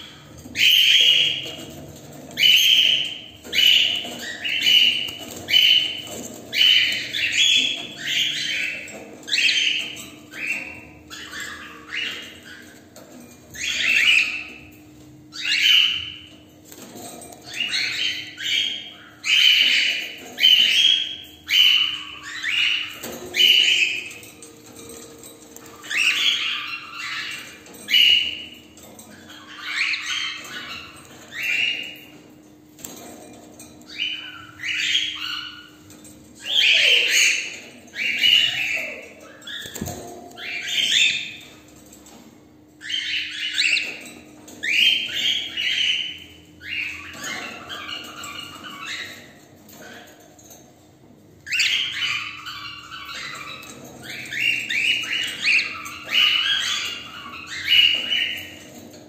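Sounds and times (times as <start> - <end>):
cockatiels screeching: 0.0 - 42.2, 42.8 - 50.6, 51.4 - 59.0.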